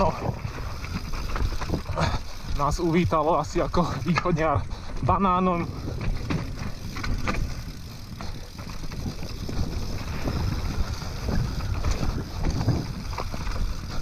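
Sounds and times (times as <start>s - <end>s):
wind on microphone: 0.0s - 2.6s, 4.6s - 14.0s
bike knocking and rattling: 0.0s - 14.0s
bike tyres rumbling: 0.0s - 14.0s.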